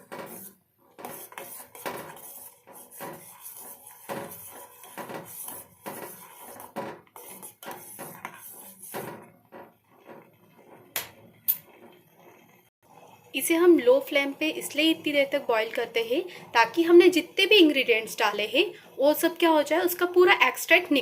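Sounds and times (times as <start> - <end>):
spoon stirring in a pot: 0.0 - 20.1.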